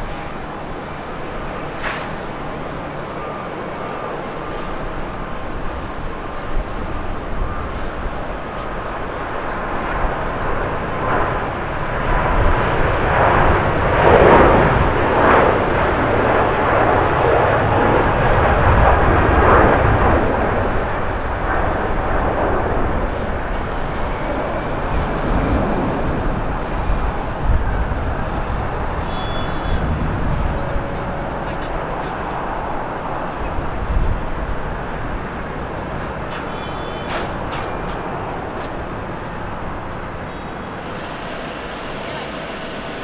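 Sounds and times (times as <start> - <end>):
jet engines roaring: 0.0 - 43.0.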